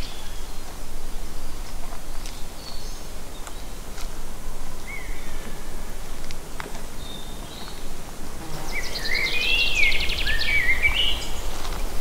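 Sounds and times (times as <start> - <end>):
songbird song: 0.0 - 12.0
steady hiss: 0.0 - 12.0.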